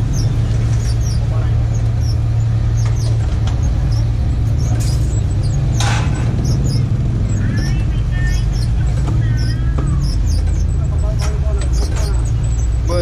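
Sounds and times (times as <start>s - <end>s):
engine idling drone: 0.0s - 13.0s.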